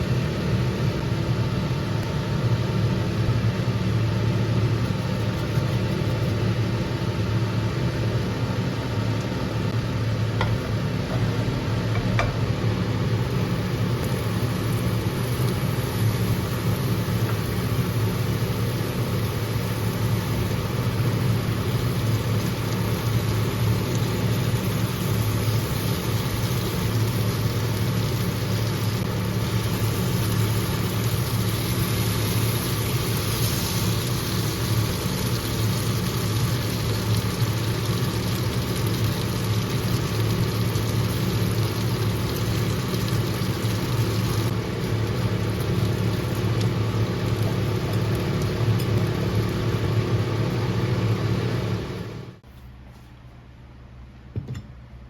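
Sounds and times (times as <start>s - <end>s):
low mechanical motor hum: 0.0s - 55.0s.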